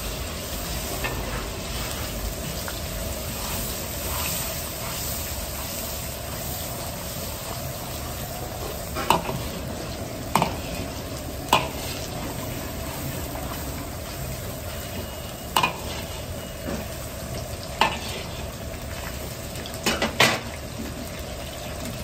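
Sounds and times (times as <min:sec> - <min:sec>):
eggs sizzling in butter: 0:00.0 - 0:22.0.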